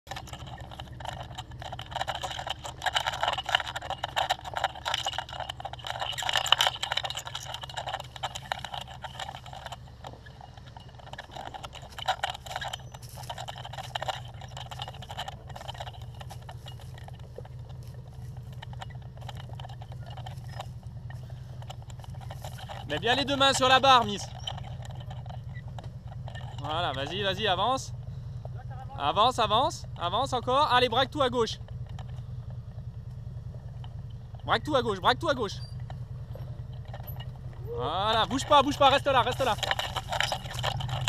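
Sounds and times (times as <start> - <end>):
engine running at low revs: 0.0 - 41.0
tyres crunching over stones: 0.0 - 41.0.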